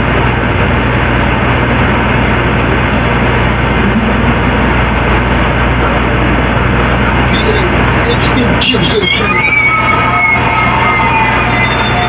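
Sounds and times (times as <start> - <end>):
low hum: 0.0 - 12.0
muffled rushing noise: 0.0 - 12.0
static: 0.0 - 12.0.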